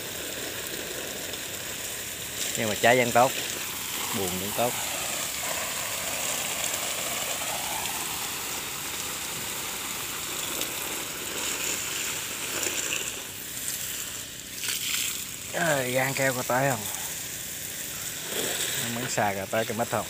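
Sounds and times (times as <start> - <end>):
hose water splashing on leaves: 0.0 - 20.0.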